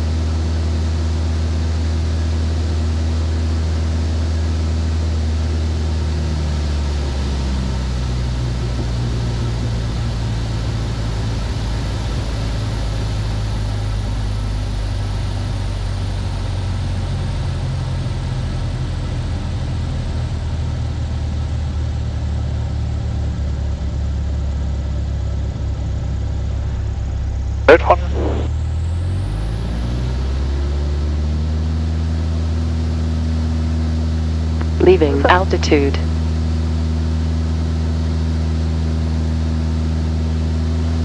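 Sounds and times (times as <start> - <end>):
propeller aircraft engine: 0.0 - 41.0.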